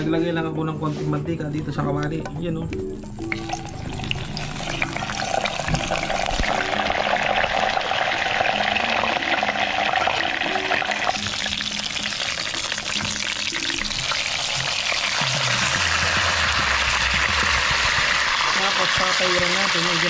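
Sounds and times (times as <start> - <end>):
oil sizzling and crackling: 3.2 - 20.0.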